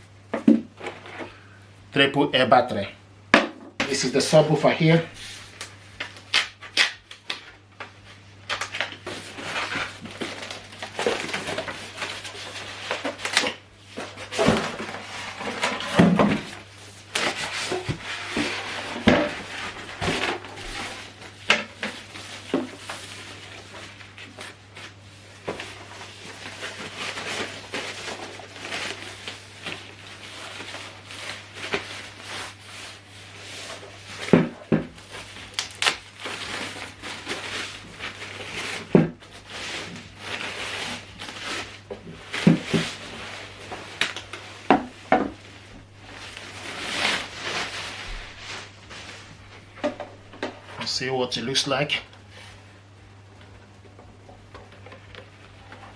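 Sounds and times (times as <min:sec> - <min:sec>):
steady low hum: 0:00.0 - 0:55.9
cardboard packaging rustling: 0:03.9 - 0:55.9.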